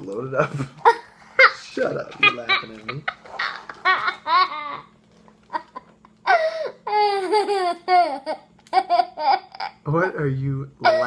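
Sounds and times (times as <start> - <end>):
boy laughing: 0.8 - 9.8.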